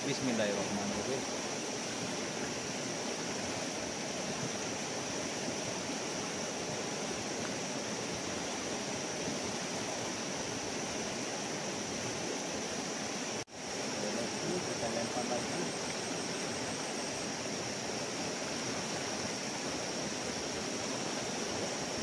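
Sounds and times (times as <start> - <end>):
river current rushing: 0.0 - 22.0.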